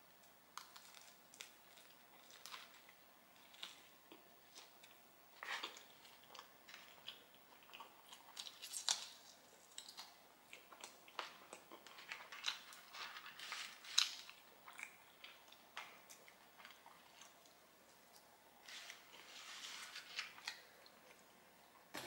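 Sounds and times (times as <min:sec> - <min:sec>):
close chewing with mouth clicks: 0:00.6 - 0:18.3.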